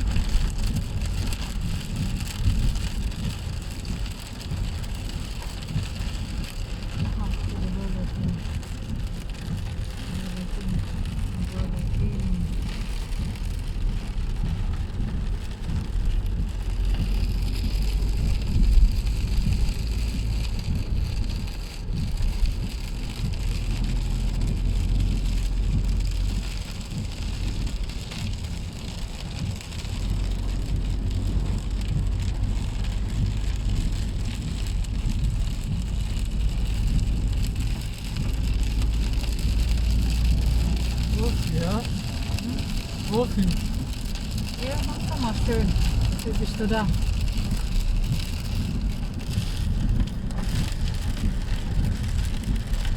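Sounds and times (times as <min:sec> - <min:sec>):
car engine and tyre rumble: 0:00.0 - 0:52.9
heavy rain on car roof: 0:00.0 - 0:52.9.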